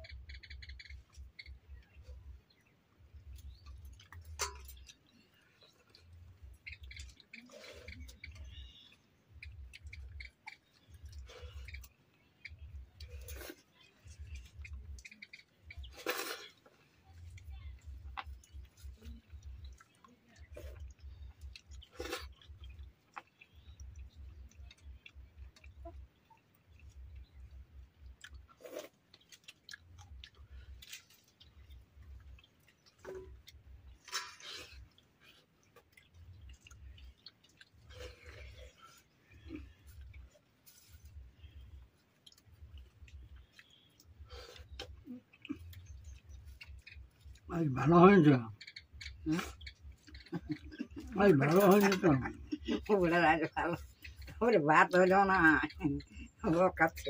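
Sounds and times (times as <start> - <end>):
people chewing food: 0.0 - 57.0.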